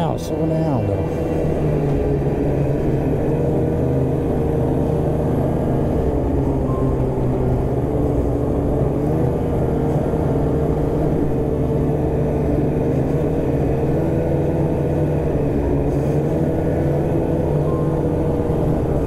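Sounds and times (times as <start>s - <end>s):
snowmobile engine and track running: 0.0s - 19.0s.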